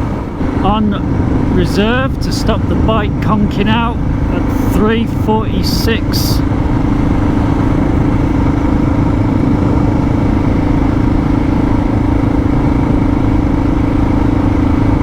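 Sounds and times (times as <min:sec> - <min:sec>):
motorcycle engine droning: 0:00.0 - 0:15.0
wind and road noise: 0:00.0 - 0:15.0.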